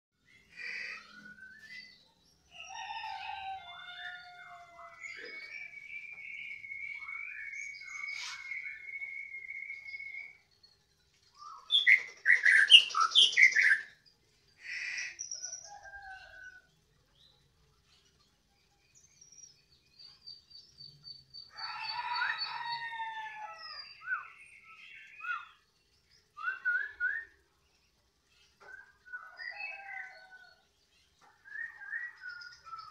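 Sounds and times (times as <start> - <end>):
songbird singing varied phrases: 0.2 - 10.6, 11.3 - 17.5, 18.6 - 32.9.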